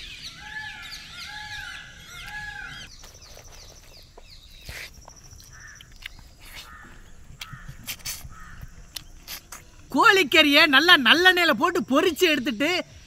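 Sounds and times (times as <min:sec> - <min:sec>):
birds calling: 0:00.0 - 0:11.4.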